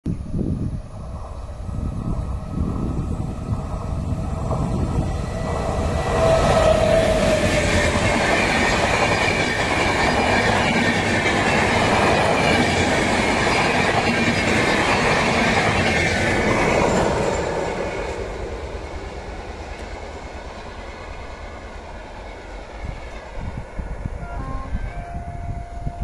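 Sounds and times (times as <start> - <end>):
passenger train passing: 0.1 - 26.0
train wheels rushing on rails: 0.4 - 24.2.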